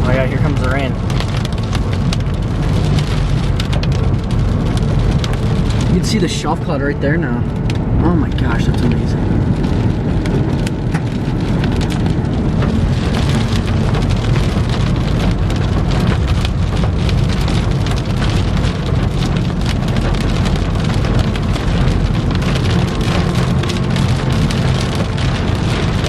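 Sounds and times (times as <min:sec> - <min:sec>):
heavy rain hitting a car: 0:00.0 - 0:26.0
wind and car rumble: 0:00.0 - 0:26.0.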